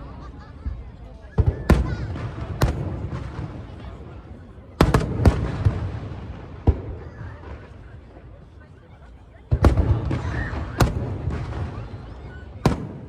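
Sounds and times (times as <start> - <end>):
fireworks booming with echo: 0.0 - 13.0.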